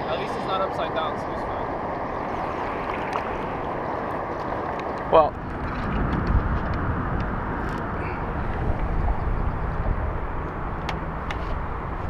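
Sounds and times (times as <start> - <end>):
low rumble: 1.6 - 12.0.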